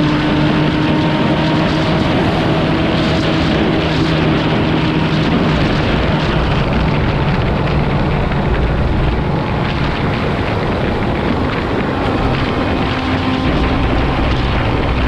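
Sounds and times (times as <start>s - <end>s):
vehicle engine roaring: 0.0s - 15.0s.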